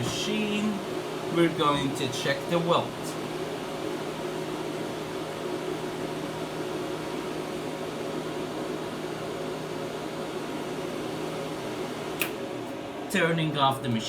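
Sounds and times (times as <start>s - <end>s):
cooling fan hum and hiss: 0.0s - 14.0s.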